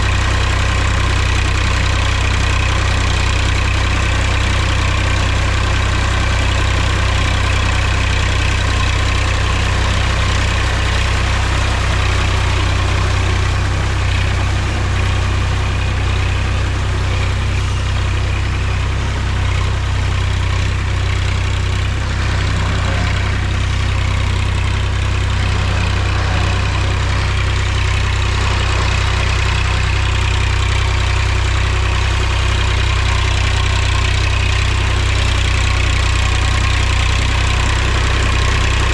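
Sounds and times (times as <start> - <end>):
tractor diesel engine drone: 0.0 - 38.9.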